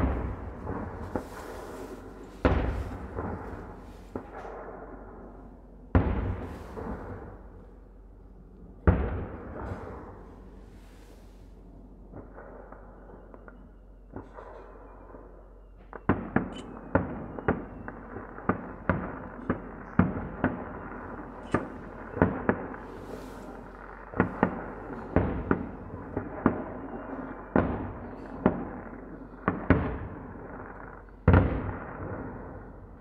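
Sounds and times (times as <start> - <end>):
firework shells booming: 0.0 - 8.0, 8.8 - 11.2, 15.8 - 33.0.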